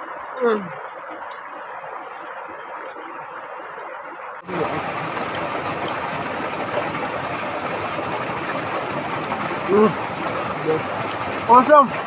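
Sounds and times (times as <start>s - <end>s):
stream rushing water: 0.0s - 12.0s.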